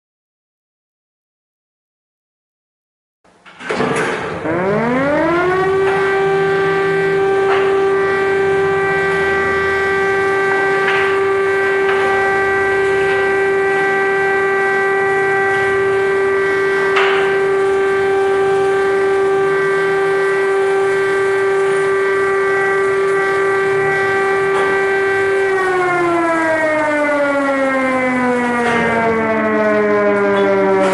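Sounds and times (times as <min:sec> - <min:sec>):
civil defence siren winding up: 0:03.7 - 0:30.9.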